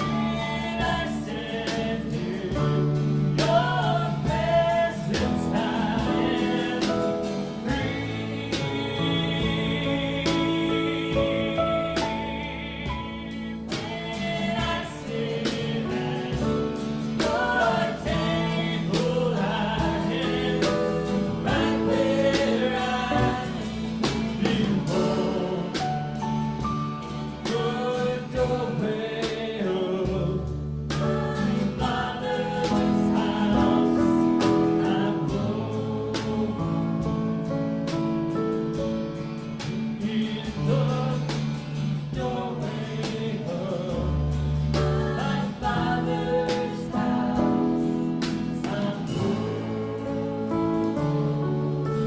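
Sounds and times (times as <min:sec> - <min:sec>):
people singing: 0:00.0 - 0:52.0
worship band playing: 0:00.0 - 0:52.0.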